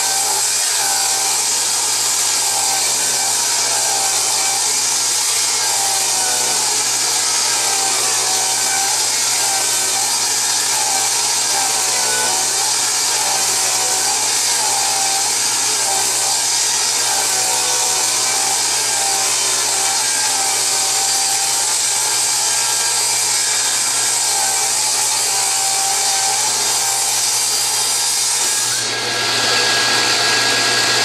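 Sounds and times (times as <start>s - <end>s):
table saw ripping a board: 0.0s - 31.0s.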